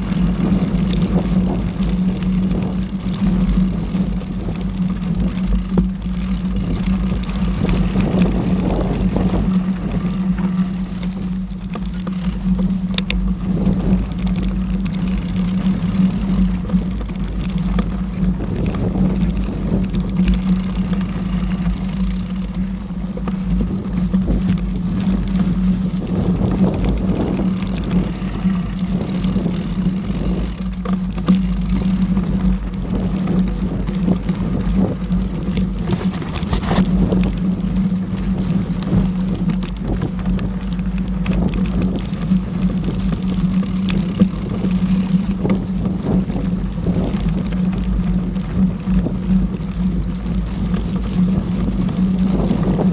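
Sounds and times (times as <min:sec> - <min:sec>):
bike rumble and rattle: 0:00.0 - 0:52.9
constant low hum: 0:00.0 - 0:52.9.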